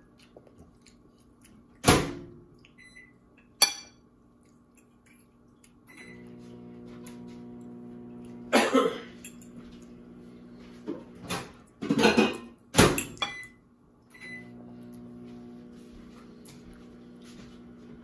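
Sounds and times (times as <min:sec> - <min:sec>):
appliance hum: 0:00.0 - 0:18.0.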